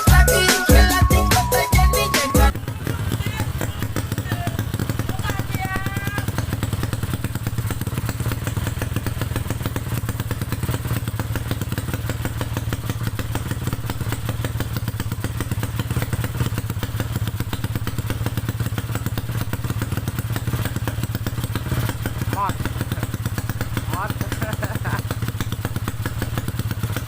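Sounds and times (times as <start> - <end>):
scooter engine running: 0.0 - 27.0.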